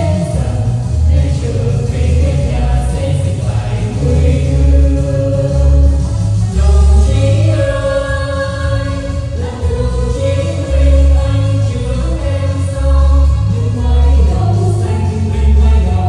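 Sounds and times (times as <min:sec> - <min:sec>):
backing track with heavy bass: 0:00.0 - 0:16.0
vocal trio singing a march: 0:00.0 - 0:16.0.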